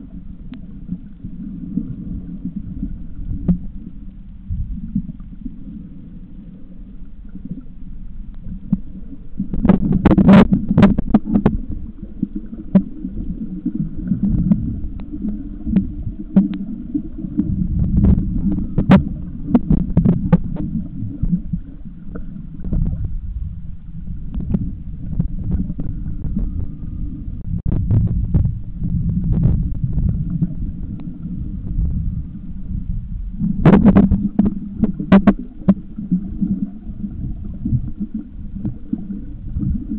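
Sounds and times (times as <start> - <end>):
underwater rumble of moving water: 0.0 - 39.9
underwater clicks and knocks: 0.4 - 5.2, 8.3 - 39.9.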